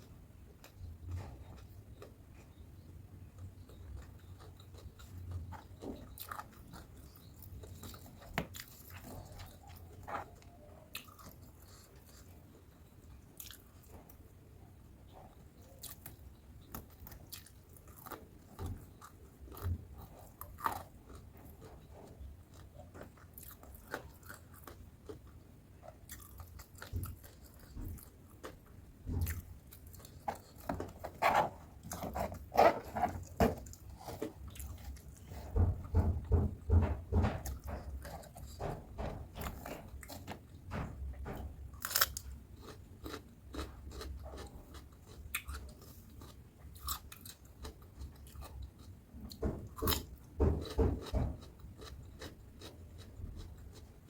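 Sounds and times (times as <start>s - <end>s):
chewing: 0.6s - 14.4s, 15.0s - 35.6s, 41.7s - 54.0s.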